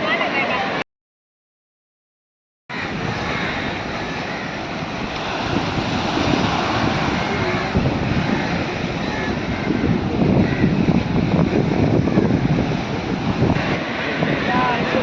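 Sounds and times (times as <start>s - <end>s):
sea waves washing: 2.7s - 15.0s
wind rumbling on microphone: 2.7s - 15.0s.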